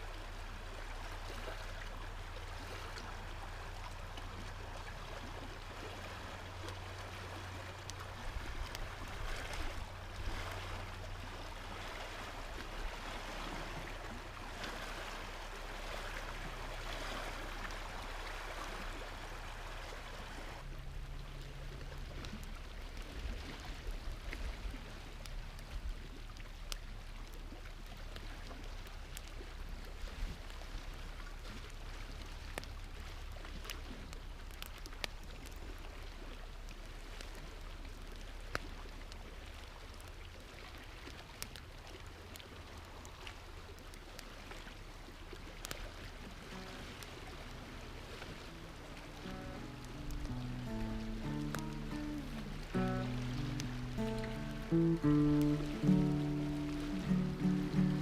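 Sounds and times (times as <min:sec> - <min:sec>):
campfire crackling: 0:00.0 - 0:58.0
flowing water: 0:00.0 - 0:58.0.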